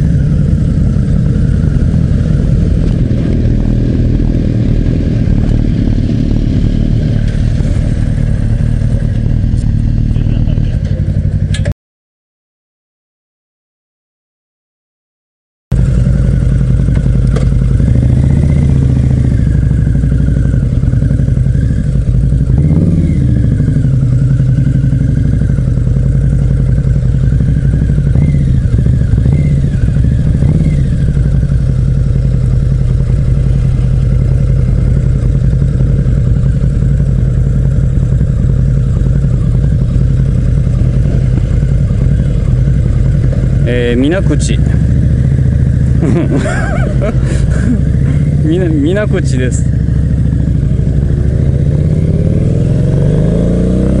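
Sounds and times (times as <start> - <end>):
motorcycle engine rumbling: 0.0 - 11.7, 15.7 - 54.0.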